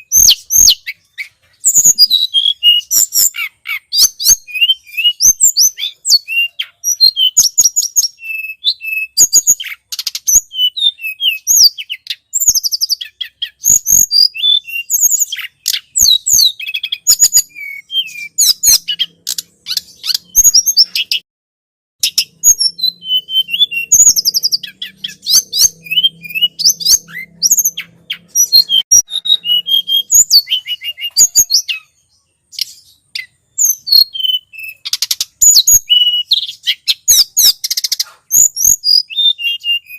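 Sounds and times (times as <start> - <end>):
bird chirping and trilling: 0.0 - 21.2, 22.0 - 39.9.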